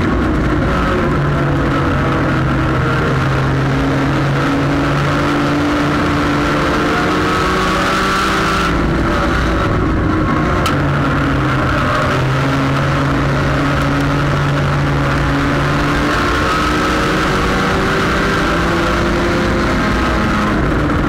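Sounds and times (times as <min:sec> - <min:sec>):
race car engine under load: 0:00.0 - 0:21.0
road and wind noise: 0:00.0 - 0:21.0.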